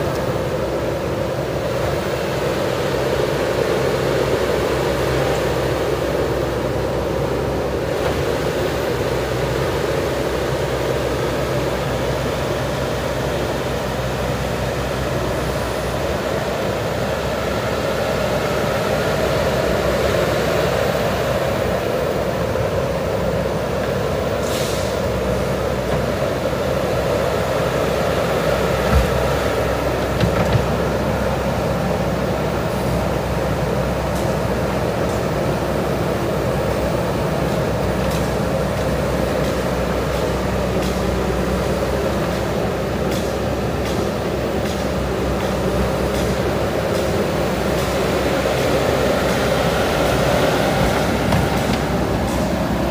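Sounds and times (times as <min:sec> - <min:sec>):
diesel engines running: 0:00.0 - 0:52.9.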